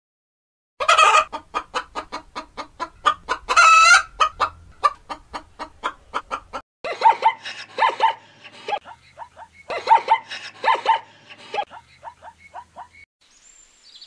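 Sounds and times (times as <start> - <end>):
rooster clucking and squawking: 0.8 - 13.0.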